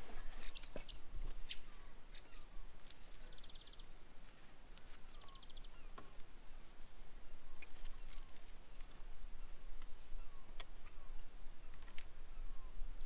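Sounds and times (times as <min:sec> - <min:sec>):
faint background noise: 0:00.0 - 0:13.0
small birds chirping: 0:00.0 - 0:13.0.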